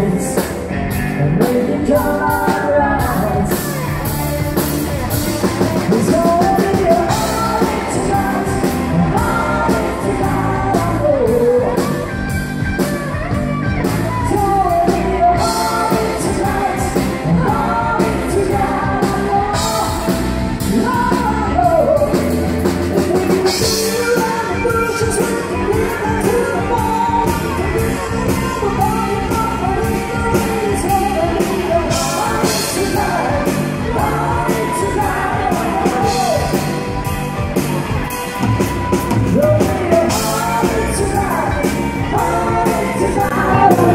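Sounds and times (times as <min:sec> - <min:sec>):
man singing into a microphone: 0:00.0 - 0:04.1, 0:05.8 - 0:12.3, 0:14.1 - 0:36.8, 0:39.3 - 0:43.9
electric guitar: 0:00.0 - 0:43.9
steady drumbeat: 0:00.0 - 0:43.9.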